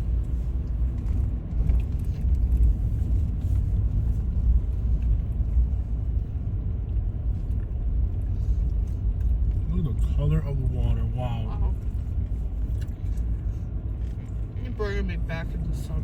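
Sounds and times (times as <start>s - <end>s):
road and engine rumble in vehicle: 0.0s - 16.0s.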